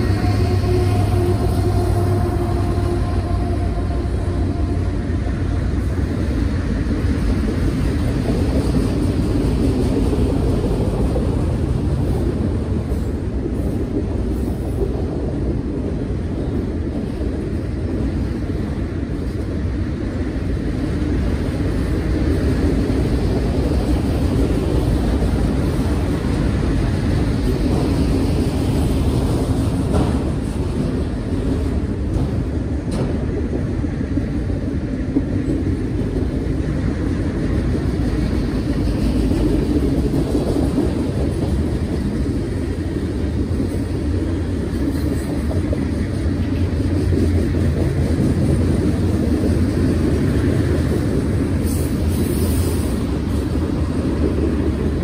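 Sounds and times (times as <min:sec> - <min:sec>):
steel wheels rumbling on rails: 0:00.0 - 0:55.0.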